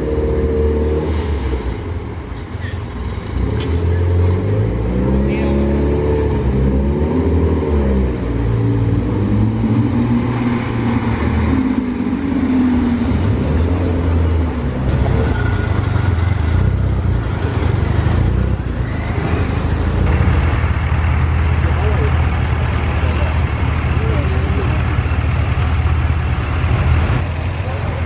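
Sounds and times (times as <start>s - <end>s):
car engines droning: 0.0s - 28.0s
car revving and driving off: 0.0s - 28.0s.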